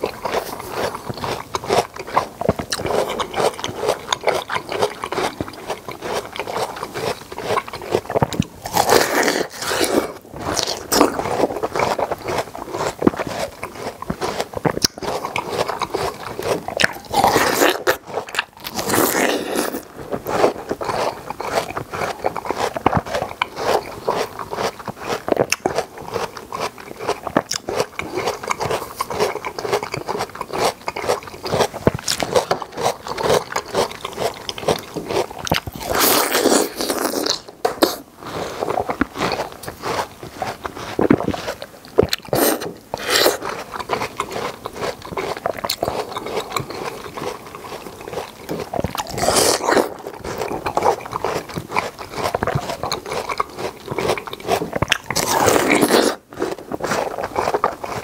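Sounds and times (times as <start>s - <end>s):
wet crunching and chewing: 0.0s - 58.0s.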